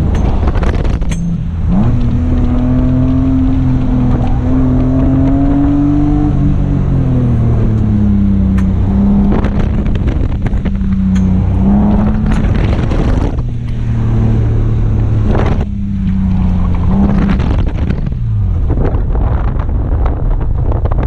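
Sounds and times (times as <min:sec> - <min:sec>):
car engine revving: 0:00.0 - 0:21.0
road and wind noise: 0:00.0 - 0:21.0.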